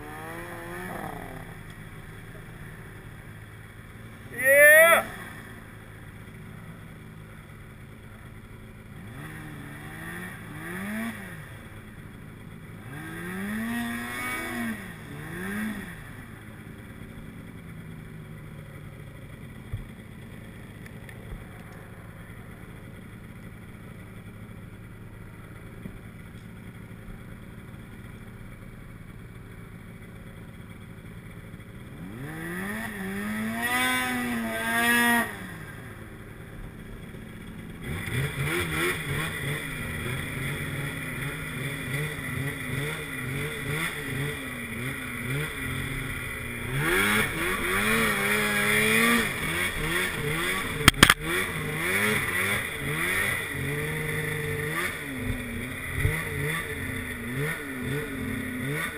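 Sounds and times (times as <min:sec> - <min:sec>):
snowmobile engine idling and revving: 0:00.0 - 0:58.9.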